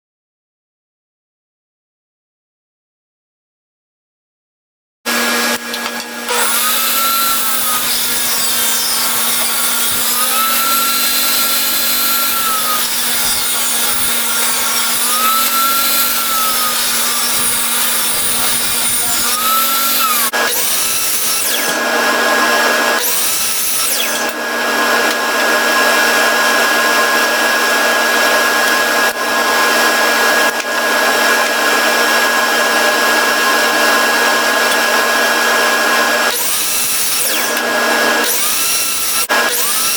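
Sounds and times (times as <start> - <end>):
woodworking power tool running: 5.1 - 39.9.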